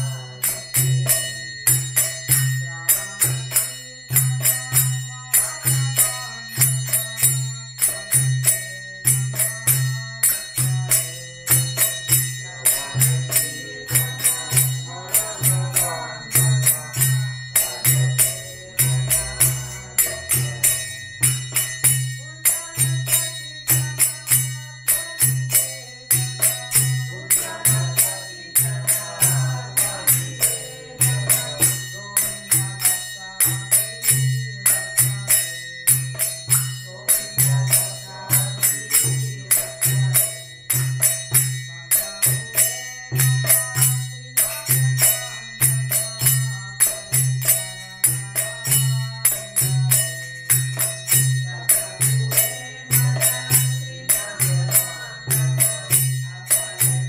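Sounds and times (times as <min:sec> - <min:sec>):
devotional chanting: 0:00.0 - 0:57.0
jingling hand cymbals: 0:00.0 - 0:57.0.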